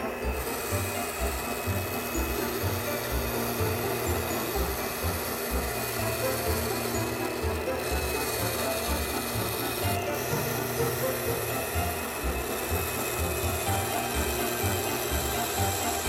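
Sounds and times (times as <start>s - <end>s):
ring saw grinding glass: 0.0s - 16.0s.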